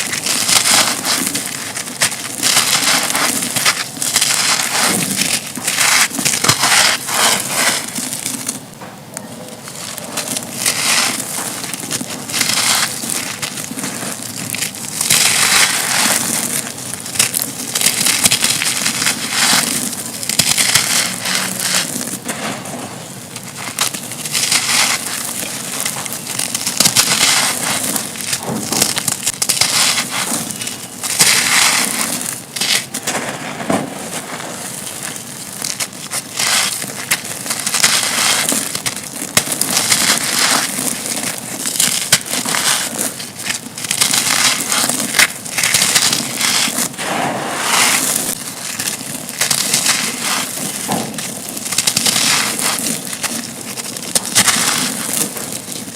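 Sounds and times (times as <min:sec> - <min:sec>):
concrete and stones crunching: 0:00.0 - 0:55.9.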